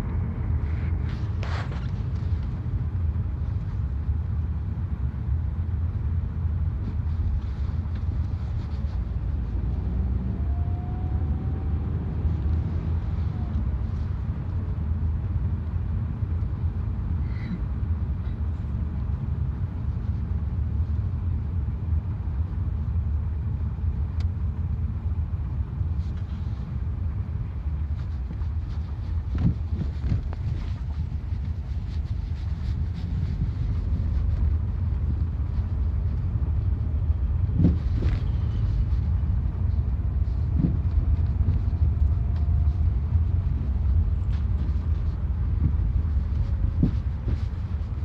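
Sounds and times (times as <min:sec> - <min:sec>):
car driving rumble: 0:00.0 - 0:48.0.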